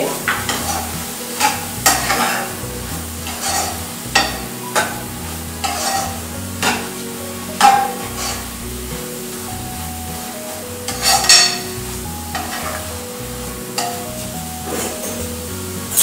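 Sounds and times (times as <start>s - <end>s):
spatula scraping a frying pan: 0.2s - 16.0s.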